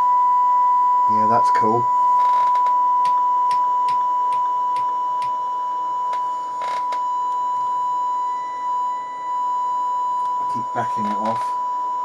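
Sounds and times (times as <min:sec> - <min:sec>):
radio test tone: 0:01.0 - 0:12.0.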